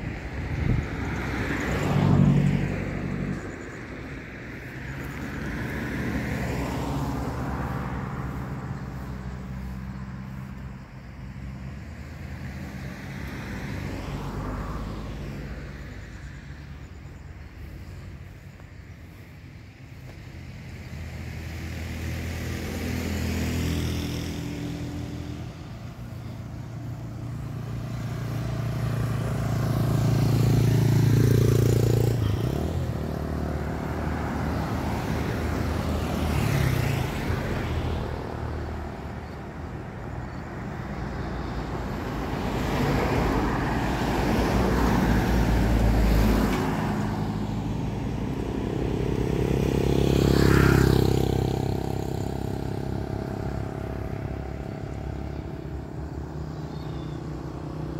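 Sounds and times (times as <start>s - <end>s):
cars passing on road: 0.0s - 57.9s
motorcycle passing: 0.0s - 57.9s.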